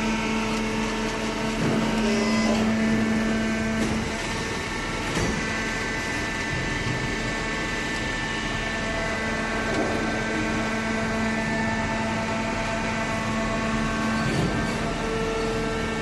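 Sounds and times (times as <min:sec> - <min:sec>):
baler motor and pump humming: 0:00.0 - 0:16.0.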